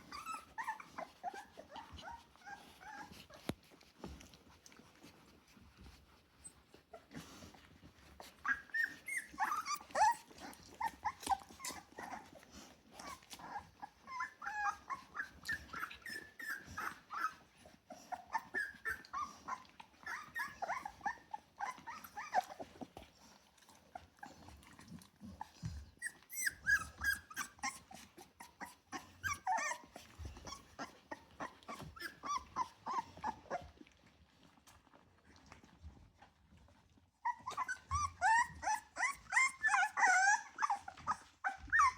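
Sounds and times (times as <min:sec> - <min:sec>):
puppies whining and squeaking: 0:00.0 - 0:41.9.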